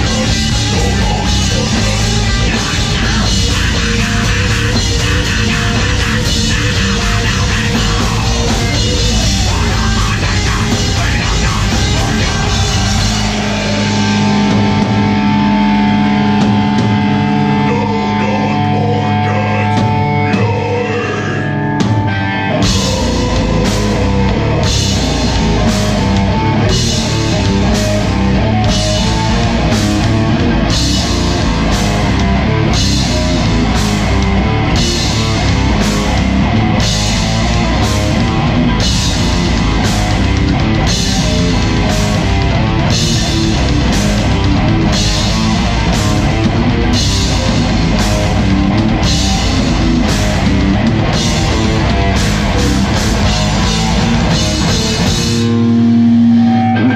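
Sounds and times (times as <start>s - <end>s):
heavy metal band playing: 0.0s - 56.9s.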